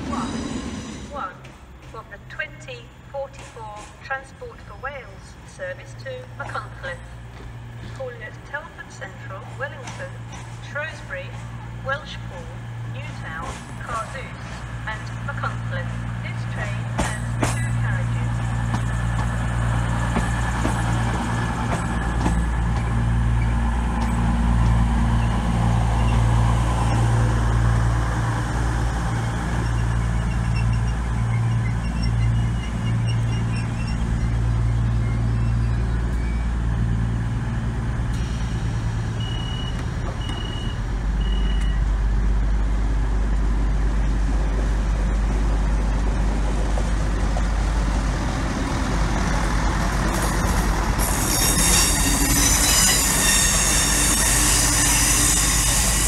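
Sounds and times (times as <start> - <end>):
diesel train engine droning: 0.0 - 56.0.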